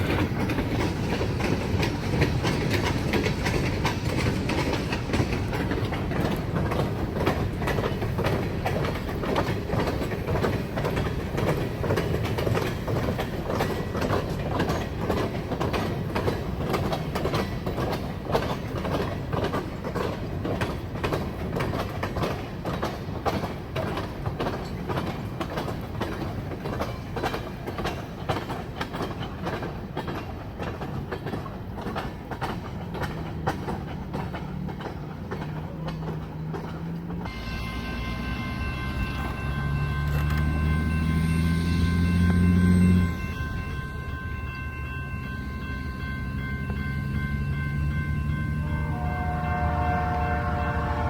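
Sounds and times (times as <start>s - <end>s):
train wheels clicking over rail joints: 0.0s - 51.0s.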